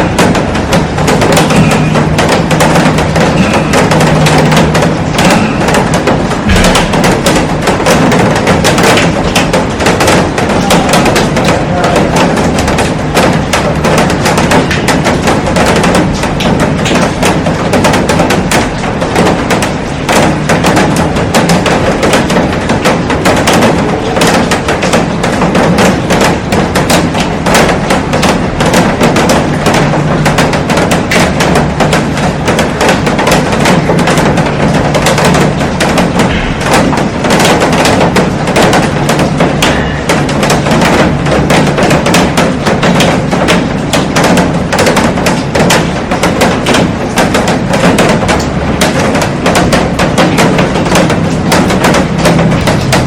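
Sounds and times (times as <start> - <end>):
heavy rain on a glass roof: 0.0 - 53.0.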